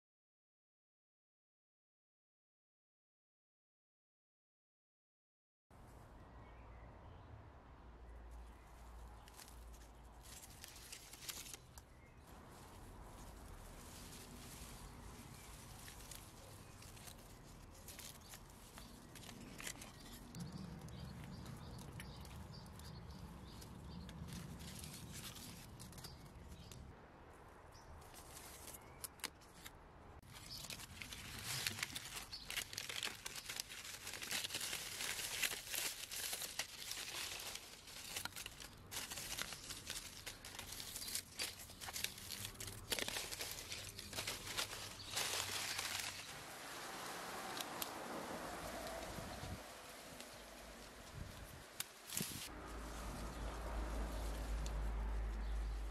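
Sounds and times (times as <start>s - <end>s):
dry leaves rustling and crackling: 8.3s - 26.9s, 27.7s - 55.9s.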